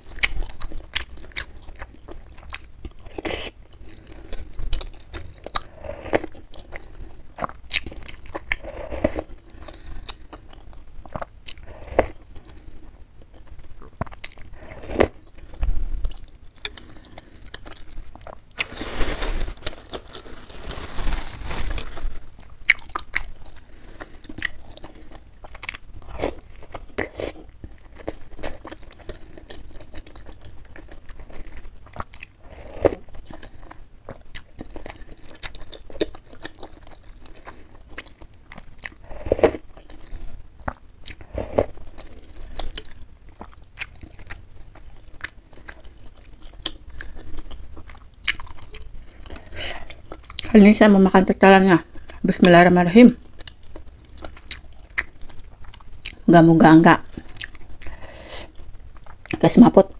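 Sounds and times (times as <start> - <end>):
wet chewing and smacking: 0.0 - 18.7, 22.3 - 50.6, 53.2 - 56.3, 57.1 - 59.4.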